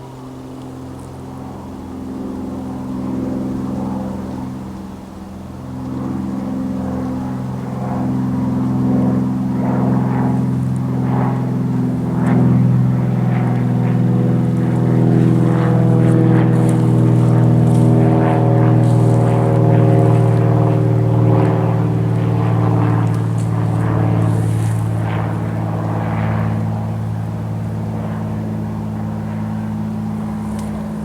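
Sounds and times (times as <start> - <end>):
motor engine droning: 0.0 - 31.0.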